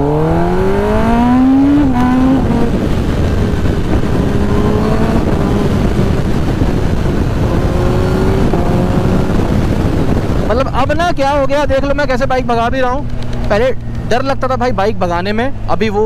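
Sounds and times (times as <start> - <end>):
wind on microphone: 0.0 - 14.2
motorcycle engine accelerating: 0.0 - 14.8.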